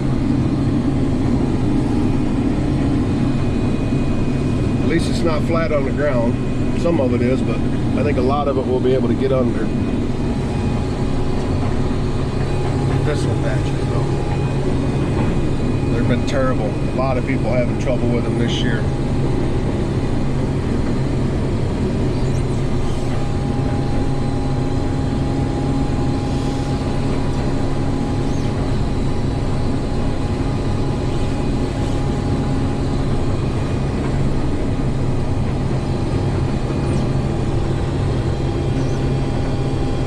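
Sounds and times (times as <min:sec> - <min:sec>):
combine engine and threshing drone: 0:00.0 - 0:40.0
thin steady whine: 0:00.0 - 0:40.0.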